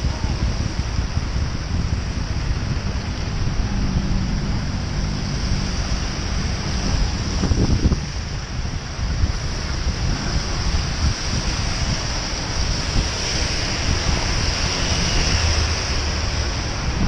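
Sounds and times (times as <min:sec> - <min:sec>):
tyres hissing on wet road: 0:00.0 - 0:17.0
wind buffeting microphone: 0:00.0 - 0:17.0.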